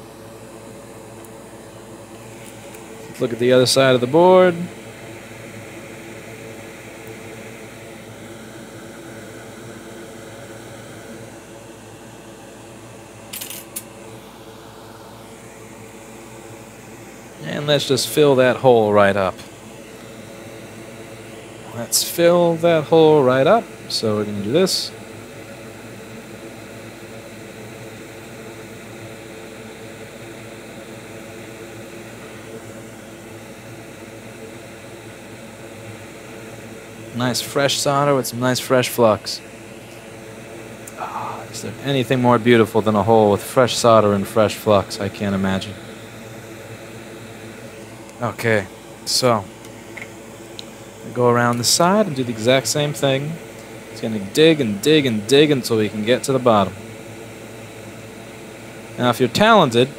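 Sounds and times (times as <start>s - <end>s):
faint hum tones: 0.0s - 59.9s
steady fan noise: 0.0s - 59.9s
steady whir: 0.0s - 59.9s.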